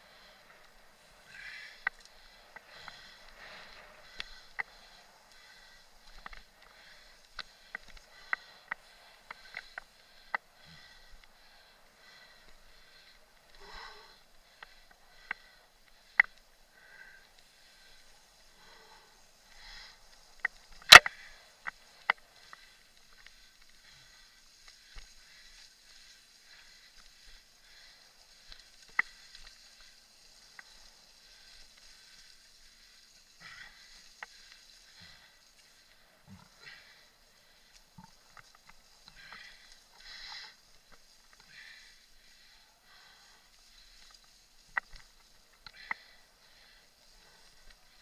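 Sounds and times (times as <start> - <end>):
faint hiss: 0.0 - 48.0.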